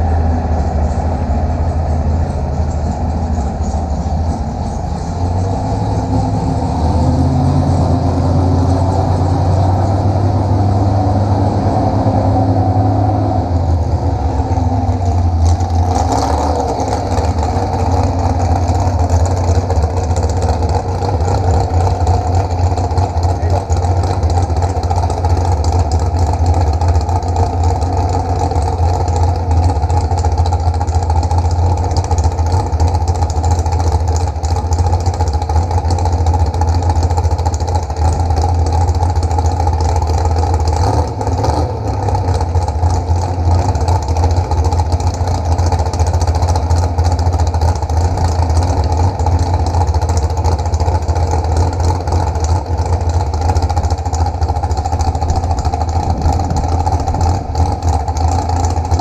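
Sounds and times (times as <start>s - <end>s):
engine running with deep hum: 0.0s - 59.0s.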